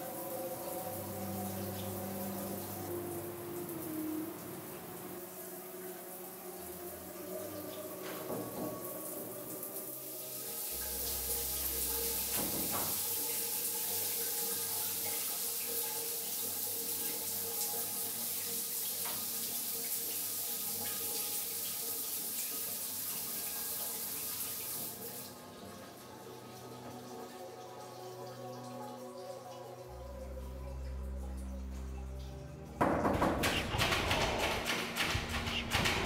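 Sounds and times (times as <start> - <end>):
water running from tap: 0.0 - 29.7.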